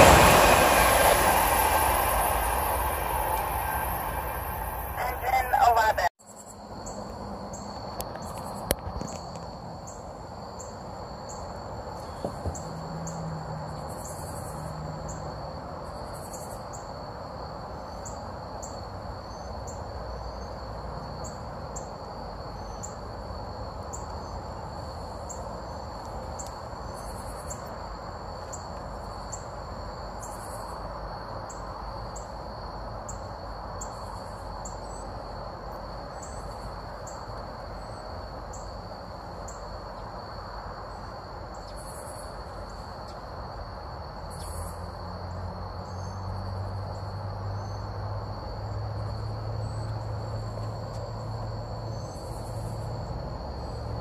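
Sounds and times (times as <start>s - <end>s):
background hum: 0.0s - 54.0s
crickets trilling: 0.0s - 54.0s.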